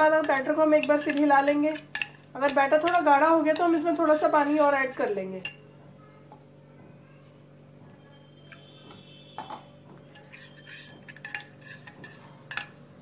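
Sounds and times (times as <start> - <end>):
spoon stirring thick batter: 0.0 - 6.5, 7.3 - 13.0.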